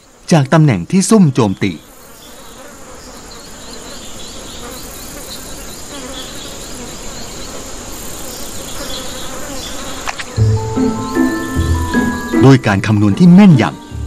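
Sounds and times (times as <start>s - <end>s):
flies buzzing: 0.0s - 14.0s.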